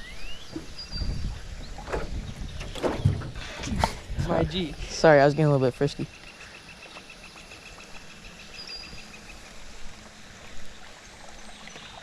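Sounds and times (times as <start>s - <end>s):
faint water sounds: 0.0s - 12.0s.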